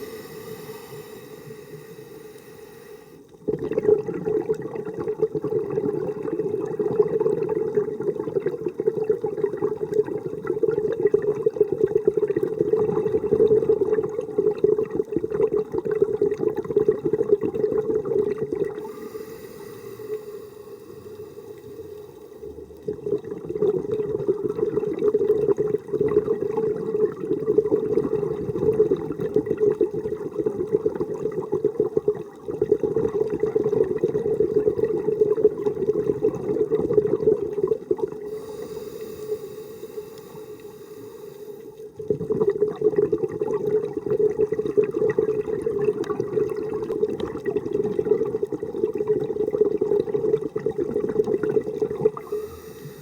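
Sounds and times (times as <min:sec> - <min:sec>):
underwater bubbling from divers: 0:00.0 - 0:53.0.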